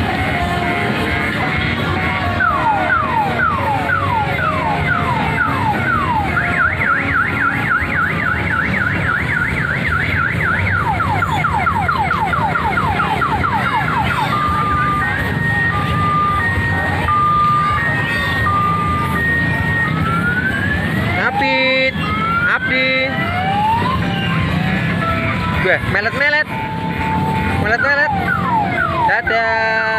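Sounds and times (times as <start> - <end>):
electronic toy siren: 0.2 - 29.9.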